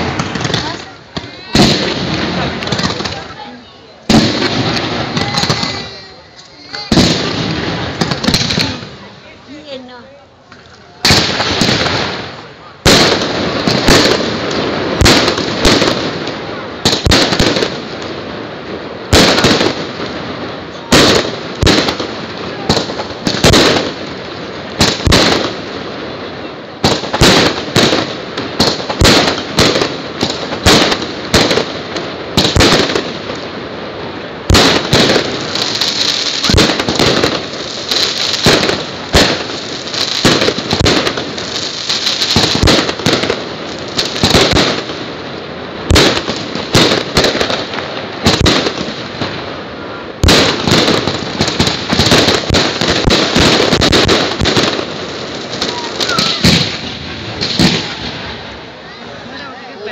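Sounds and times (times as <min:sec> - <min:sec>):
fireworks bursting with sharp bangs: 0:00.0 - 0:59.9.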